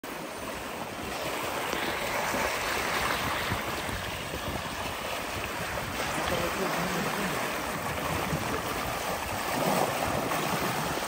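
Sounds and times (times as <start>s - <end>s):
seawater rushing along hull: 0.0s - 11.0s
wind: 0.0s - 11.0s.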